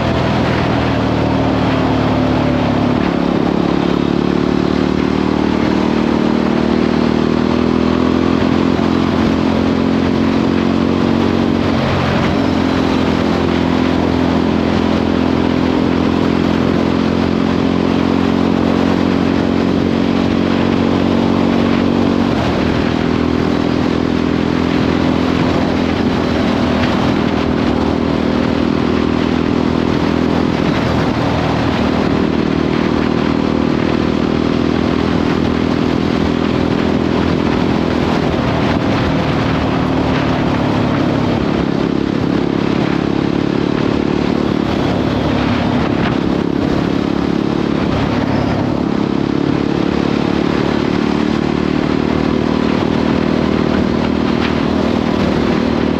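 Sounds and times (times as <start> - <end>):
motorcycle engine cruising: 0.0 - 55.9
wind and road noise: 0.0 - 55.9.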